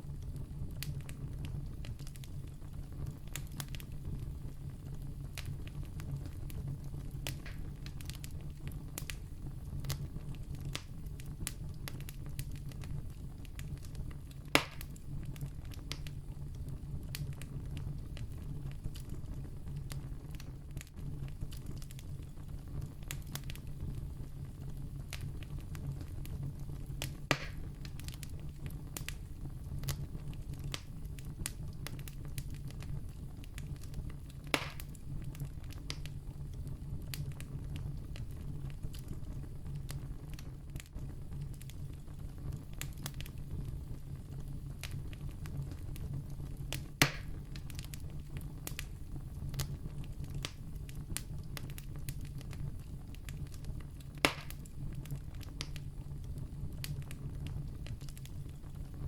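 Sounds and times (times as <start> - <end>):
campfire crackling: 0.0 - 59.0
loud fire pops: 0.0 - 59.0
low rumble of flames: 0.0 - 59.0.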